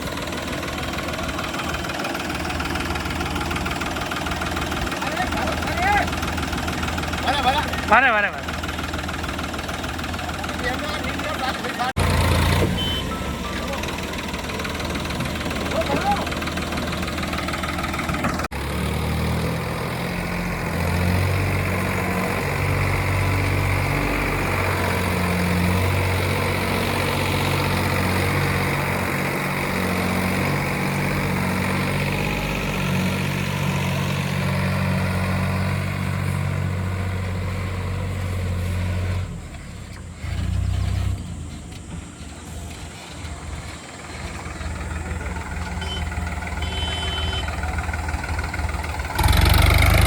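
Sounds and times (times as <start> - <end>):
heavy diesel machinery engine: 0.0 - 50.0.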